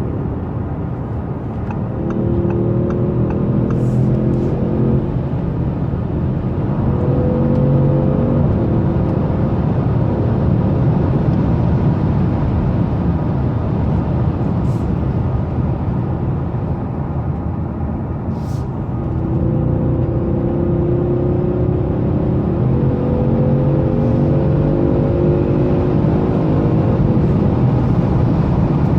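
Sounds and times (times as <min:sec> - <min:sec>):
car engine accelerating: 0:00.0 - 0:18.2, 0:18.9 - 0:28.9.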